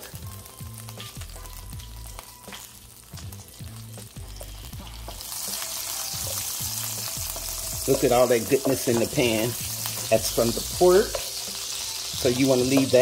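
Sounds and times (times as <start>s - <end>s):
butter sizzling in a skillet: 0.0s - 13.0s.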